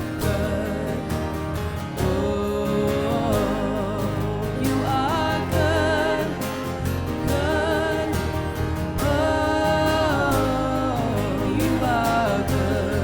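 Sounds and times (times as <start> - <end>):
lead vocalist singing: 0.0 - 13.0
worship band playing slow song: 0.0 - 13.0.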